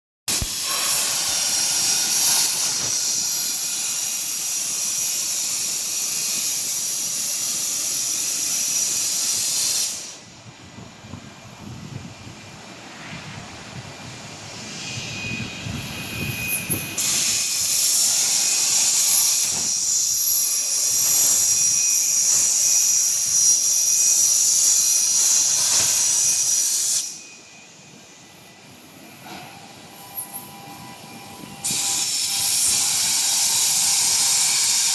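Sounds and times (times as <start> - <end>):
plasma torch cutting steel: 0.3 - 10.3, 14.1 - 34.9.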